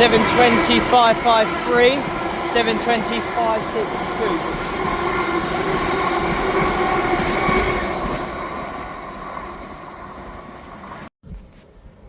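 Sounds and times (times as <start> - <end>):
electric train whine: 0.0 - 11.1
train rumbling past: 0.0 - 11.1.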